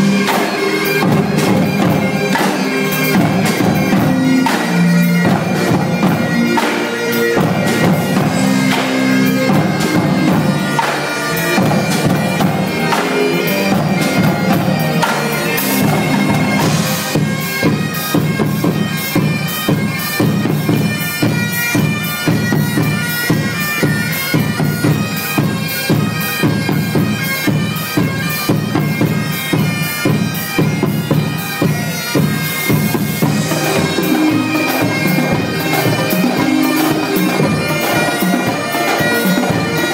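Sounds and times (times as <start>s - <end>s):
bagpipes playing a tune: 0.0s - 39.9s
marching drum line: 0.0s - 39.9s.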